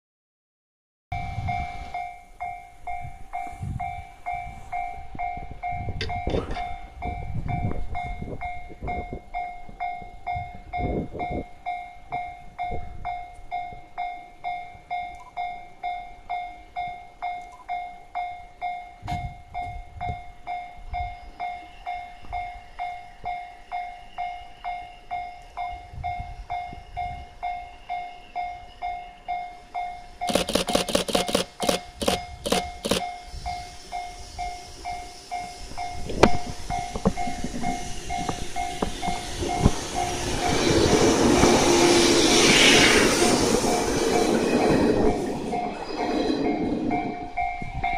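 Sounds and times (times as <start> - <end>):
electric train passing: 1.2 - 47.9.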